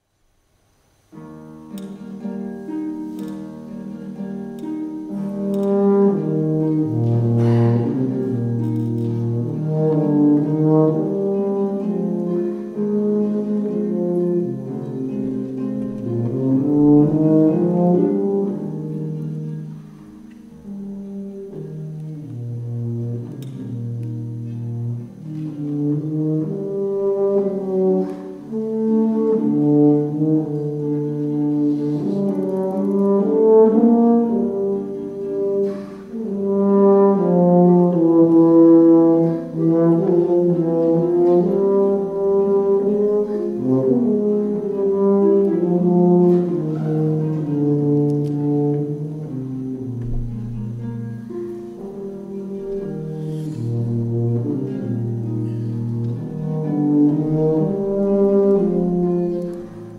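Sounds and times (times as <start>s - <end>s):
tuba playing low notes: 1.0s - 59.9s.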